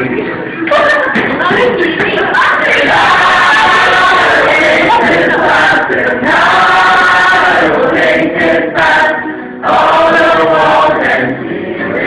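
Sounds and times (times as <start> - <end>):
group singing in chorus: 0.6 - 12.0.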